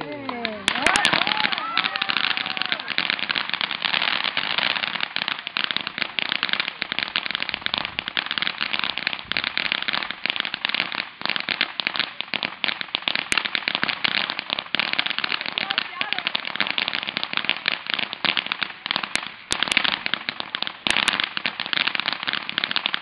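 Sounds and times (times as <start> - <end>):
fireworks fountain crackling: 0.0 - 23.0.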